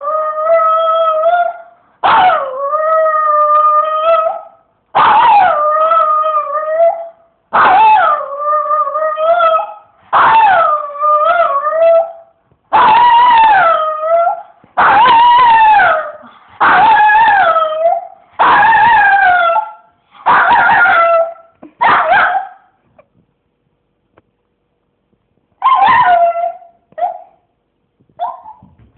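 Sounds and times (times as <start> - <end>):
dog howling: 0.0 - 22.6, 25.6 - 27.4.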